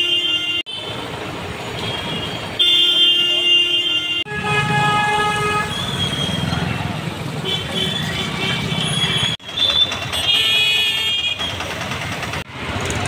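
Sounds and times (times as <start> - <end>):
vehicle horns honking: 0.0 - 11.6
street traffic noise: 0.0 - 13.0.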